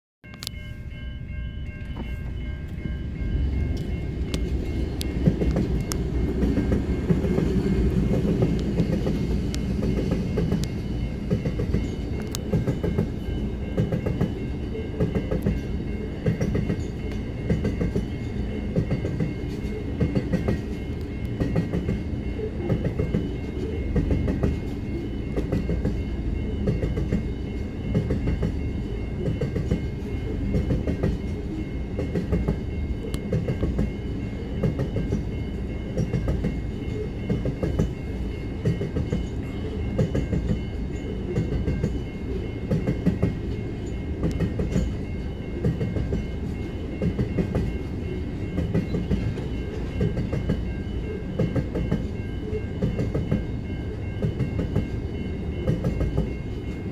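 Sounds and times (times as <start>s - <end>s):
crossing warning bell ringing: 0.2s - 56.9s
freight train passing: 0.2s - 56.9s.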